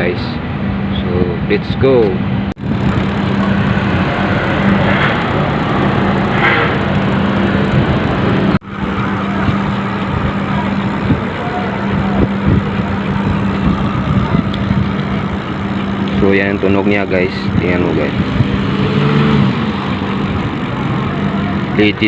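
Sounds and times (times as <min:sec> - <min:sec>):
bicycle freehub ratchet buzzing: 0:02.6 - 0:22.0.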